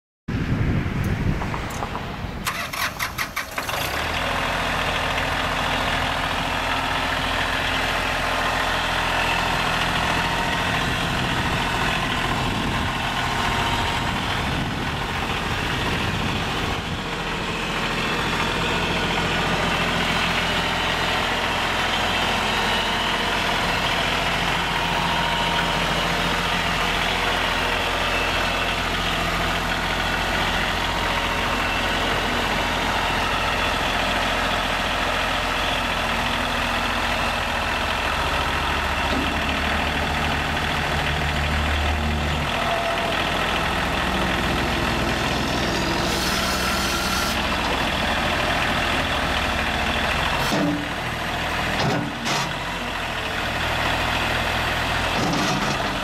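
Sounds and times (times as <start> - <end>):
tractor diesel engine running: 0.3 - 56.0.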